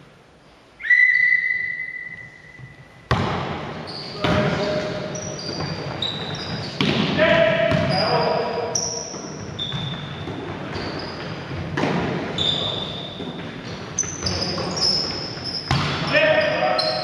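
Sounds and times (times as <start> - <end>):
trainers squeaking on hall floor: 0.8 - 17.0.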